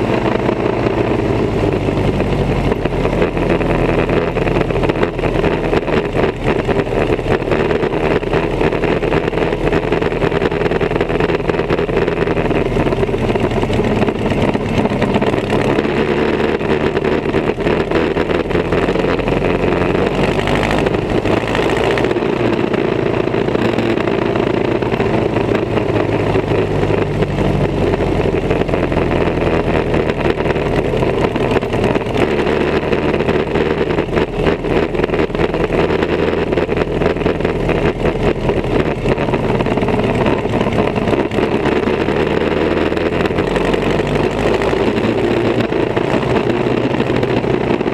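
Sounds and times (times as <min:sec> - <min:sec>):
race car engine rough firing: 0:00.0 - 0:47.9.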